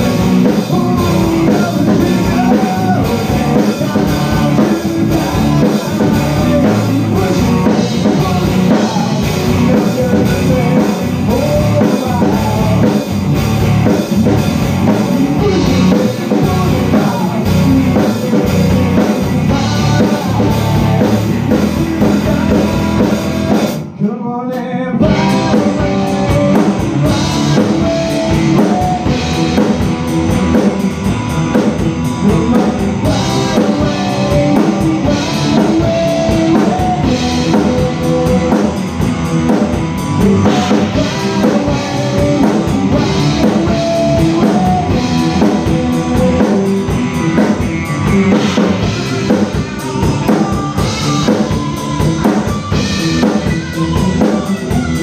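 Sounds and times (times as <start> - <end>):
person singing: 0.0 - 55.0
rock band playing live: 0.0 - 55.0.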